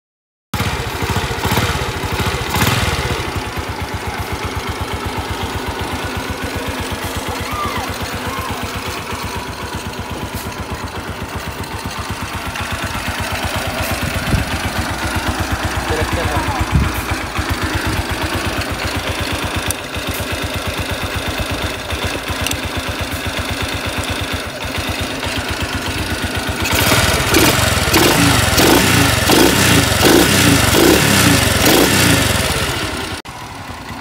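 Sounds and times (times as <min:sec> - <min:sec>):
motorcycle engine idling: 0:00.6 - 0:34.0.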